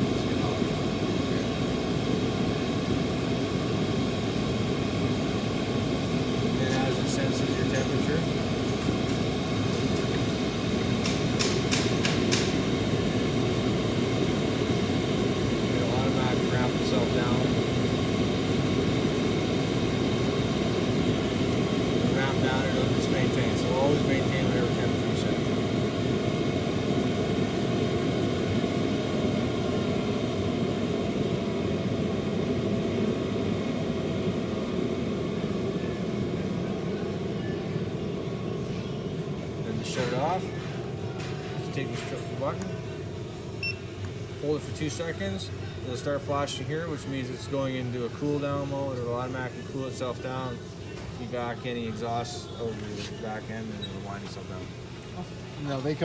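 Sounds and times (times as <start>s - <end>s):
air heater rushing noise: 0.0s - 56.0s.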